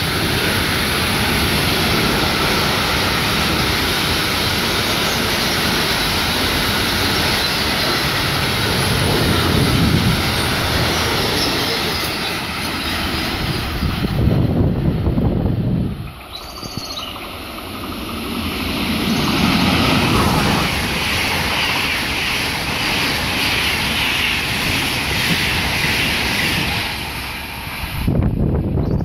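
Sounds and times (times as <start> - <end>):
distant freight train: 0.0 - 29.0
train wheels rolling on rails: 0.0 - 29.0.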